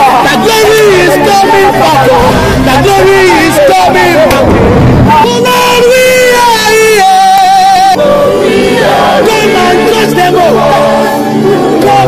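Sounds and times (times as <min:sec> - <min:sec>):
crowd crying out in worship: 0:00.0 - 0:12.0
sustained music: 0:00.0 - 0:12.0.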